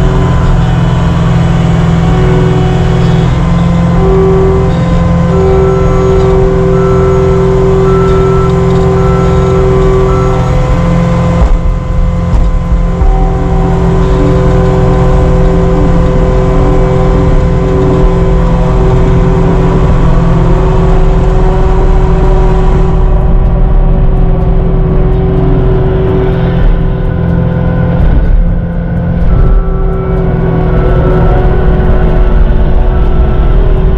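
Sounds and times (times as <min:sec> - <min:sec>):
diesel engine running: 0:00.0 - 0:33.9
steady whine: 0:00.0 - 0:33.9.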